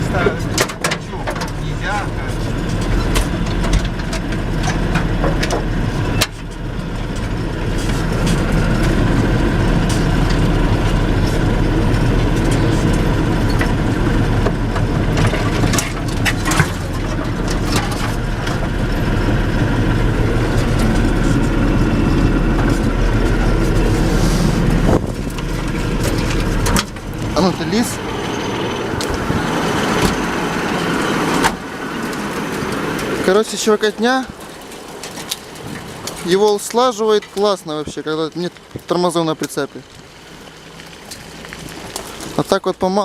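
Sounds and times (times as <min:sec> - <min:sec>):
knocks and rattles over bumps: 0:00.0 - 0:43.0
tractor diesel engine running: 0:00.0 - 0:43.0.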